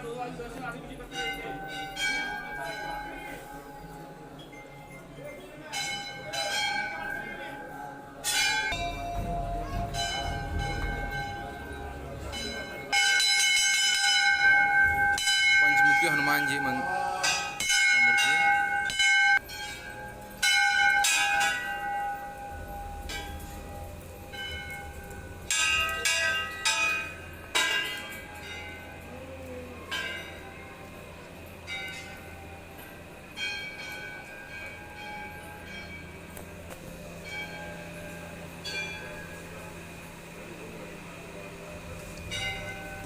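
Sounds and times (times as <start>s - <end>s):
temple bells clanging: 0.0s - 43.0s.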